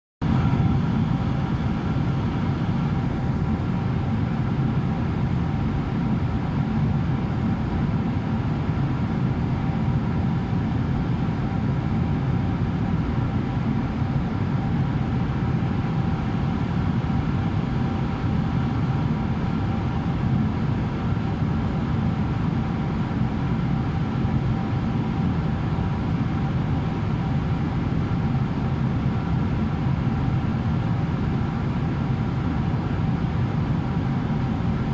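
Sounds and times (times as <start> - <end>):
airplane cabin engine drone: 0.2 - 34.9.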